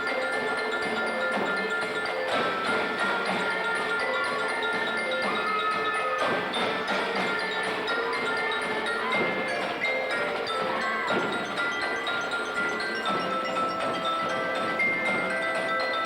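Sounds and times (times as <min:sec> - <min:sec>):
glockenspiel melody: 0:00.0 - 0:16.0.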